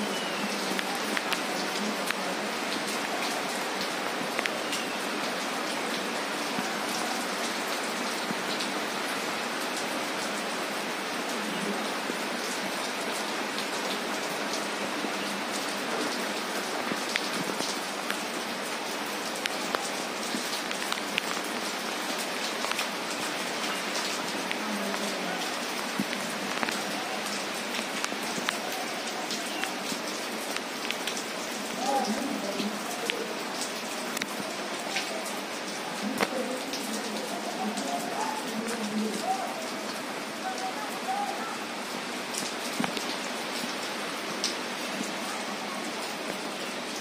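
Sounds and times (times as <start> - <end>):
rain falling on pavement: 0.0 - 47.0.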